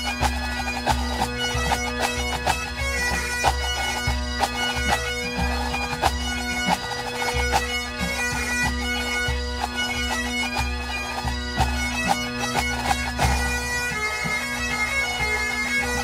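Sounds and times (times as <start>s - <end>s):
bagpipes playing melody: 0.0s - 16.0s.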